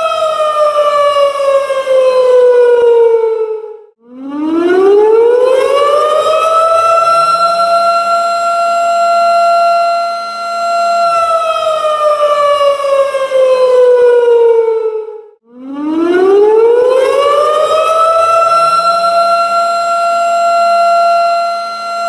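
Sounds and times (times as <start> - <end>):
warning siren: 0.0 - 22.0.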